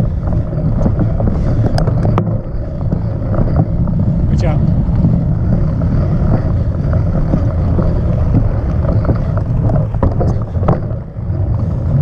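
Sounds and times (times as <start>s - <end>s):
bike rattles and knocks: 0.0s - 12.0s
tyres rumbling on dirt: 0.0s - 12.0s
wind buffeting microphone: 0.0s - 12.0s.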